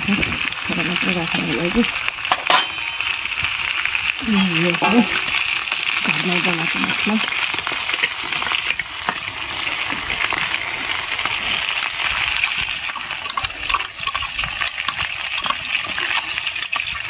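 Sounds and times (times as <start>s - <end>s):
meat sizzling in oil: 0.0s - 17.0s
wood fire popping and crackling: 0.0s - 17.0s.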